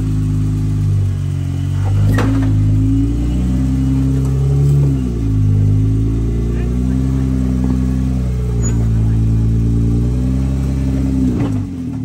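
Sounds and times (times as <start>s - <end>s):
jeep engine revving: 0.0s - 12.0s.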